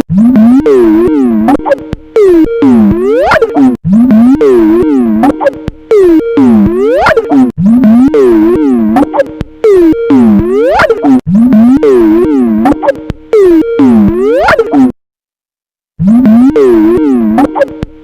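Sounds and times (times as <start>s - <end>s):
warped ringtone looping: 0.0s - 15.0s, 16.0s - 17.8s.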